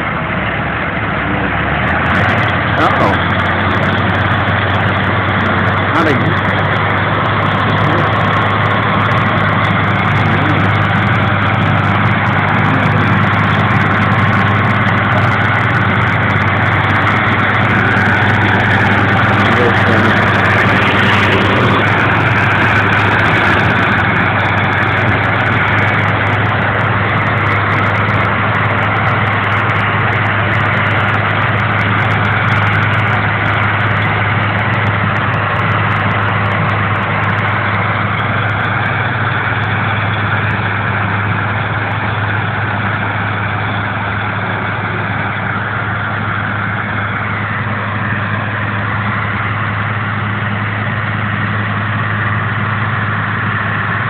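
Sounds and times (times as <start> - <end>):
hay baler mechanical noise: 0.0 - 54.0
tractor engine running: 0.0 - 54.0.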